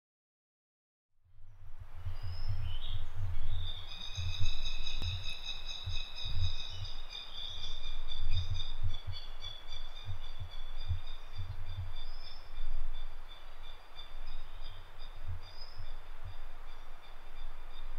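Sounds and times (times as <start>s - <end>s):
wind buffeting microphone: 1.3s - 17.9s.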